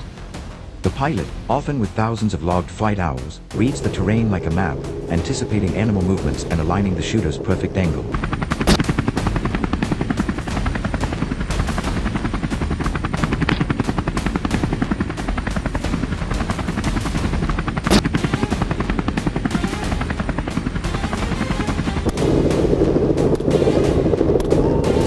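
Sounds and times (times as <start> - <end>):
helicopter rotor blades chopping: 3.4 - 25.0.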